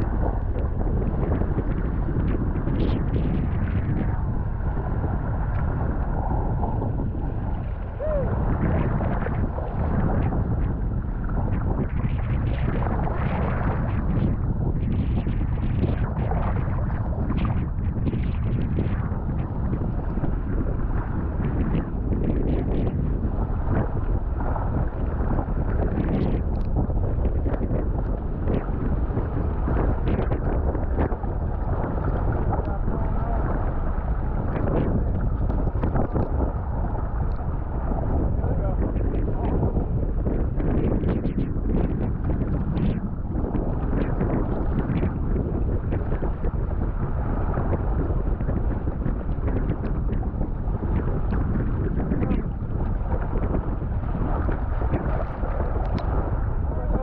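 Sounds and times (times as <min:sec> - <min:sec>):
water slapping against hull: 0:00.0 - 0:57.0
wind buffeting microphone: 0:00.0 - 0:57.0.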